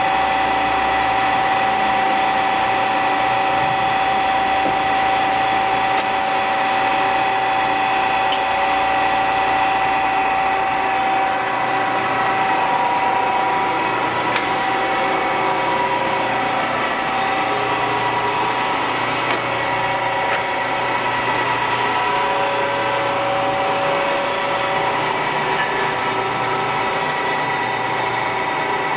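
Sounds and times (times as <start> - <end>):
lathe mechanical whine: 0.0 - 28.9.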